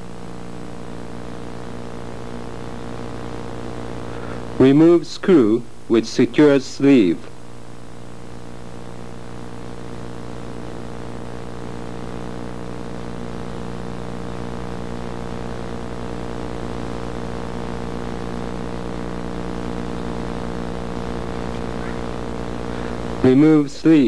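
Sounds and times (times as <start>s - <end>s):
droning hum: 0.0s - 24.0s.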